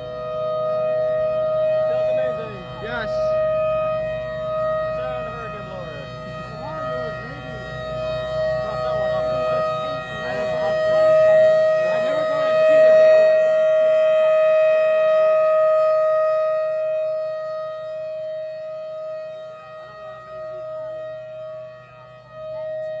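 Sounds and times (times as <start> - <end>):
warning siren steady high tone: 0.0 - 23.0.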